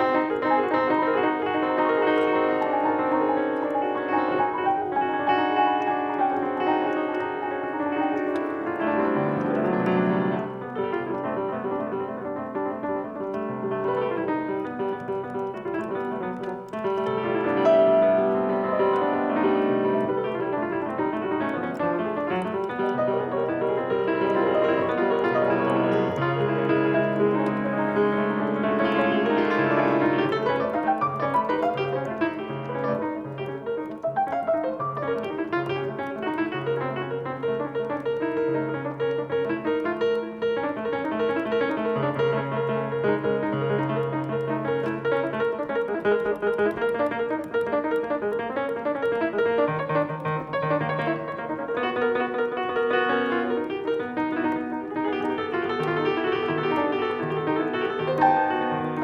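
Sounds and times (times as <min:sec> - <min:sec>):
solo piano playing: 0:00.0 - 0:59.0.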